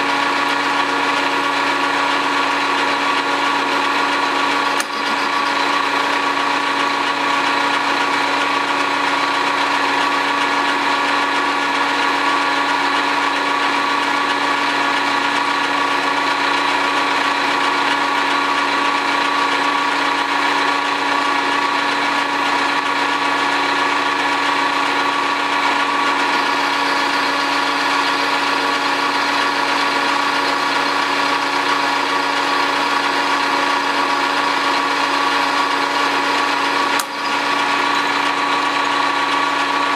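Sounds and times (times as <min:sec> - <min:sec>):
metal lathe whining: 0:00.0 - 0:39.9.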